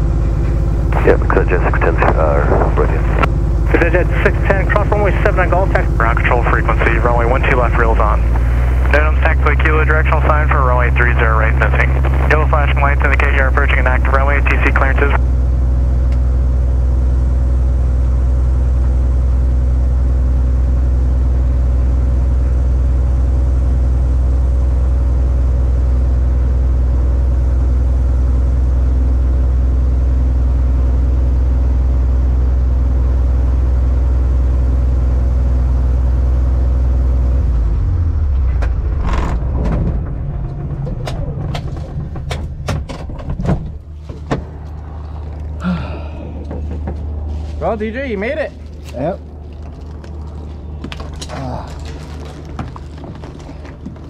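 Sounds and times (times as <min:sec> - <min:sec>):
propeller engine idling: 0:00.0 - 0:54.0.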